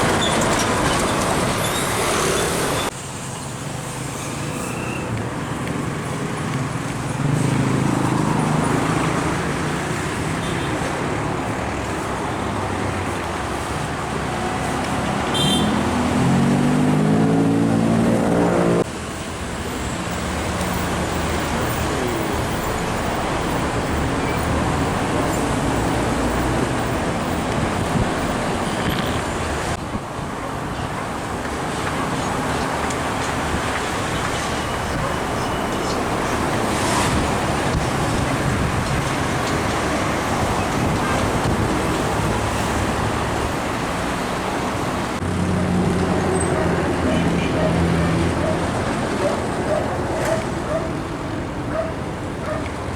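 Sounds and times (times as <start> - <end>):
road traffic noise: 0.0 - 52.9
trucks passing: 0.0 - 52.9.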